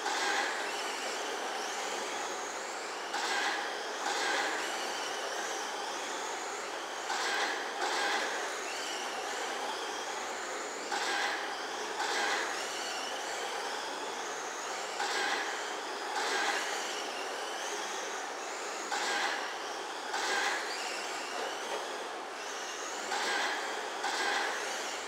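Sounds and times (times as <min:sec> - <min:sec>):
toy truck motor whine: 0:00.0 - 0:25.0.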